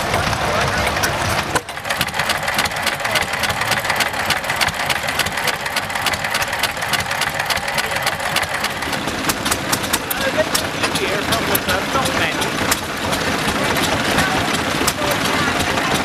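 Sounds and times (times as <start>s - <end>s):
stationary engine ticking: 0.0s - 16.0s.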